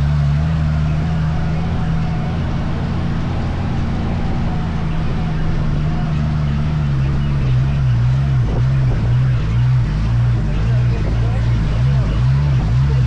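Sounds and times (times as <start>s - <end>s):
dune buggy engine running: 0.0s - 13.0s.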